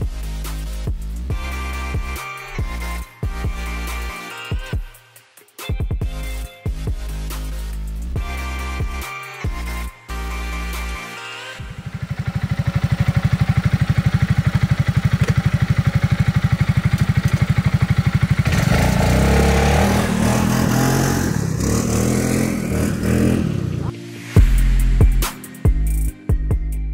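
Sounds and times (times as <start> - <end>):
quad bike engine idling and revving: 0.0 - 5.0, 5.8 - 24.6.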